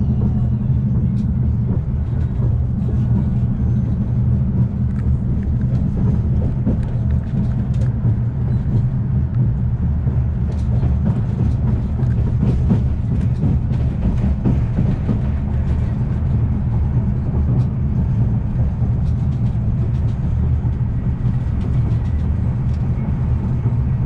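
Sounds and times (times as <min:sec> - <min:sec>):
train rumbling at speed: 0:00.0 - 0:24.0.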